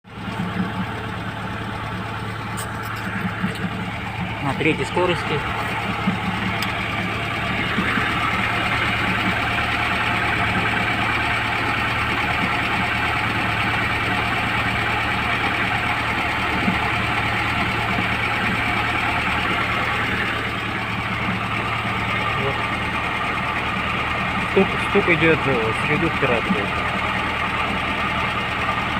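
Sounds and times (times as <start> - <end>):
car engine and drivetrain drone: 0.0 - 28.9
rear axle knocking: 0.2 - 25.4.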